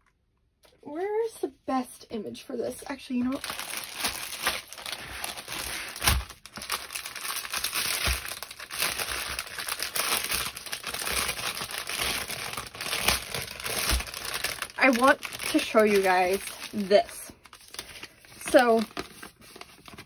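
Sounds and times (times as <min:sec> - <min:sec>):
plastic bags crinkling: 0:02.9 - 0:20.0.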